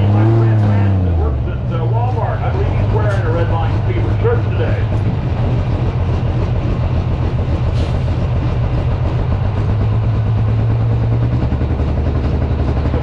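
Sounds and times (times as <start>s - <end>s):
diesel tractor engine droning: 0.0s - 13.0s.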